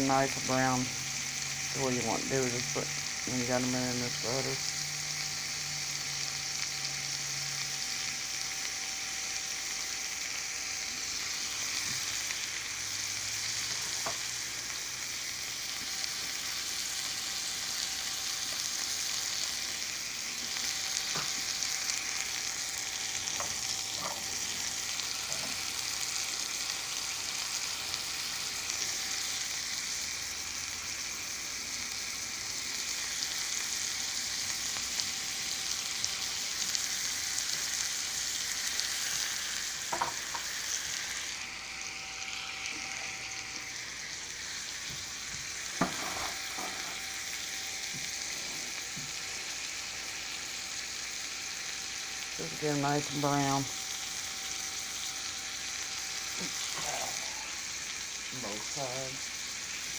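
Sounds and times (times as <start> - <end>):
chicken sizzling in butter: 0.0 - 59.9.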